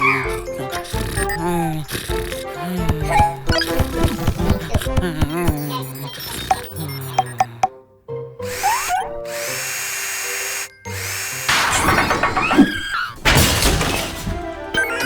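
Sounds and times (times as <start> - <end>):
cartoon power drill whirring: 0.0 - 7.6, 8.4 - 13.2
children's background music: 0.0 - 13.0, 13.6 - 15.0.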